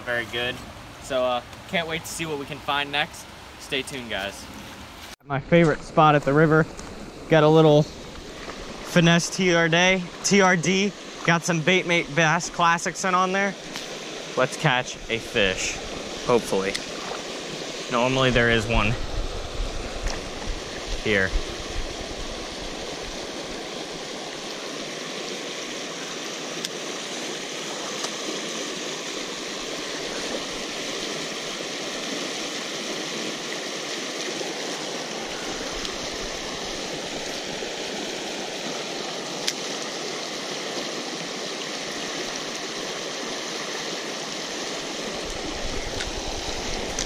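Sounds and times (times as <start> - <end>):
creek water rushing over rocks: 0.0 - 47.0.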